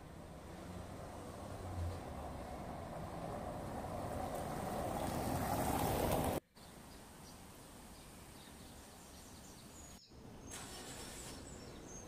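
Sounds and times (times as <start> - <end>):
quiet street ambience: 0.0 - 12.0.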